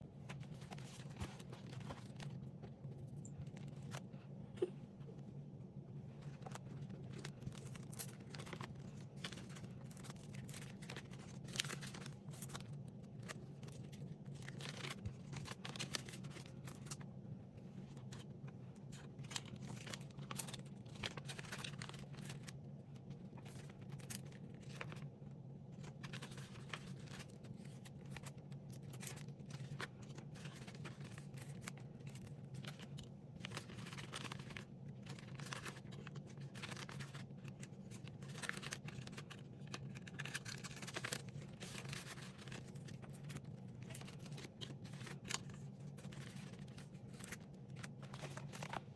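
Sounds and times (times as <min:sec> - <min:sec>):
steady low hum: 0:00.0 - 0:48.9
paper rustling and crinkling: 0:00.2 - 0:04.2, 0:06.1 - 0:48.9.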